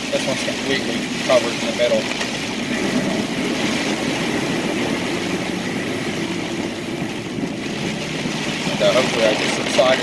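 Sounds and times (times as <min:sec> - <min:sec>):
car engine: 0:00.0 - 0:10.0
heavy rain: 0:00.0 - 0:10.0
water rushing under car: 0:00.0 - 0:10.0.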